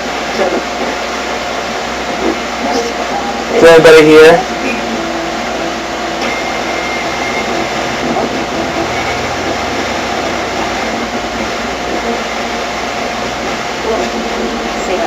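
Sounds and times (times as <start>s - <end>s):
radio static: 0.0s - 15.0s.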